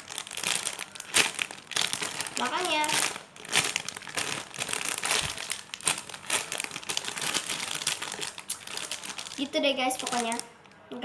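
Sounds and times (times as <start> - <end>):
squishy toy crinkling: 0.0 - 10.8.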